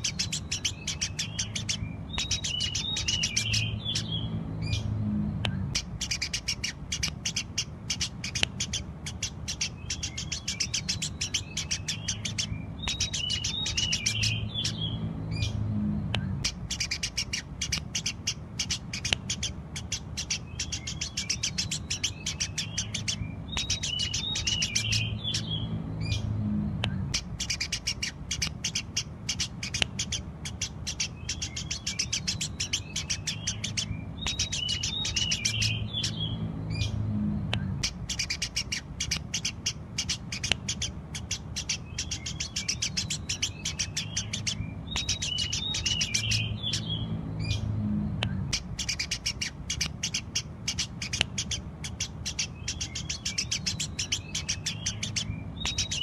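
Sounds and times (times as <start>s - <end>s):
sparrow chirping: 0.0s - 56.0s
steady low hum: 0.0s - 56.0s.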